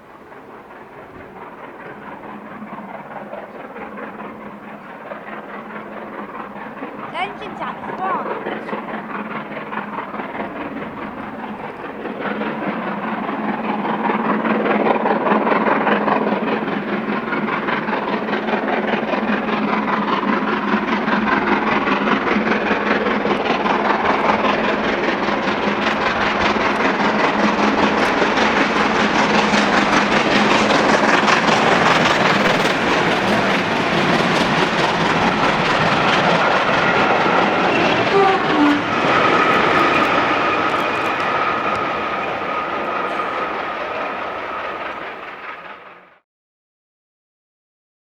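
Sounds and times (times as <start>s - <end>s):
steam train passing: 0.0s - 46.2s.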